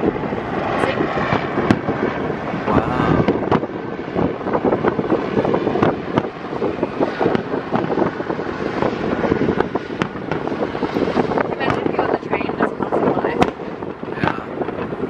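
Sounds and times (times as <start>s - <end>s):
fireworks booming and crackling: 0.0s - 15.0s
wind on microphone: 0.0s - 15.0s.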